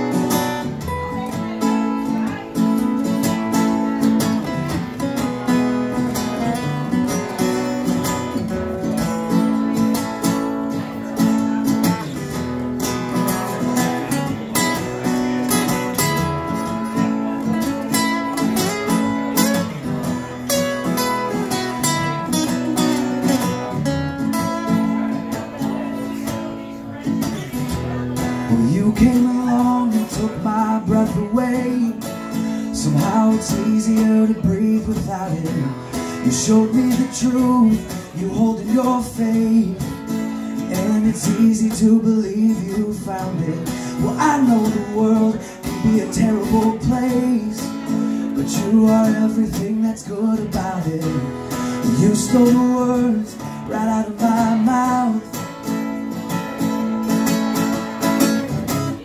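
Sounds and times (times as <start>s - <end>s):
acoustic guitars strumming: 0.0s - 59.0s.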